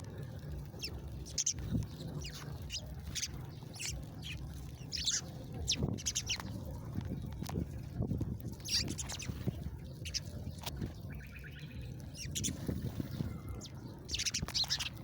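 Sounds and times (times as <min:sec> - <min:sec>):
small songbirds chirping: 0:00.0 - 0:15.0
steady low rumble: 0:00.0 - 0:15.0.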